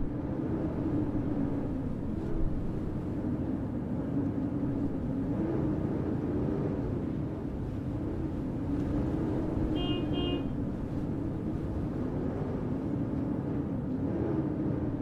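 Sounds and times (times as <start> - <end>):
low rumble of wind: 0.0 - 15.0
traffic rumble: 0.0 - 15.0.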